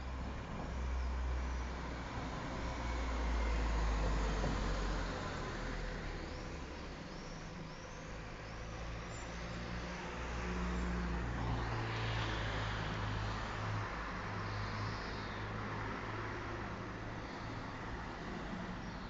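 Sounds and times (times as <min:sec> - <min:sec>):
street noise: 0:00.0 - 0:19.0.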